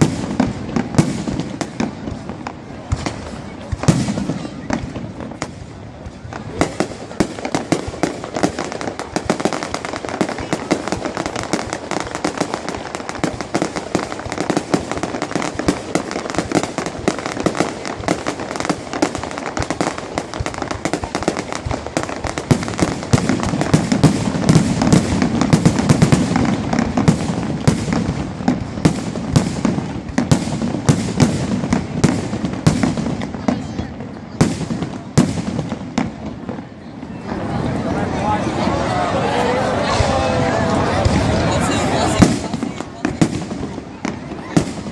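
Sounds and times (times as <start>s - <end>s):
deep firework booms: 0.0s - 37.8s, 39.7s - 44.9s
fireworks crackling and banging: 0.0s - 44.9s.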